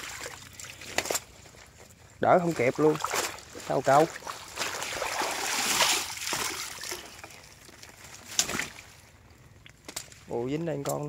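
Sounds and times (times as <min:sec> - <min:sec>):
water splashing and sloshing: 0:00.0 - 0:10.4.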